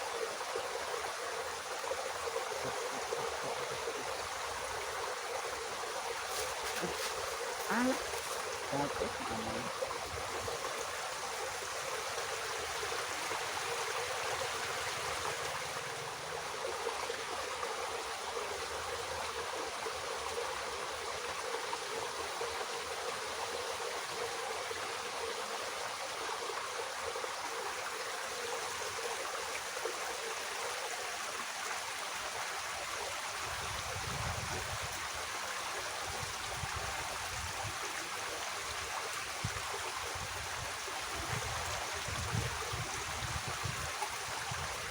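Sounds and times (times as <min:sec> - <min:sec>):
water flowing in a ditch: 0:00.0 - 0:44.9.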